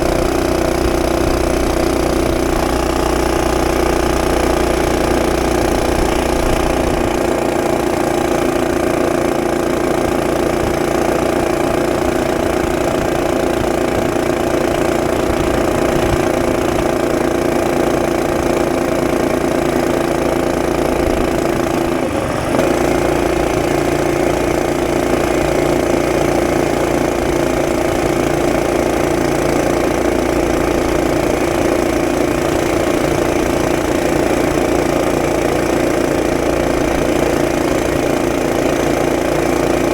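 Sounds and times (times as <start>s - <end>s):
small engine at high revs: 0.0s - 39.9s.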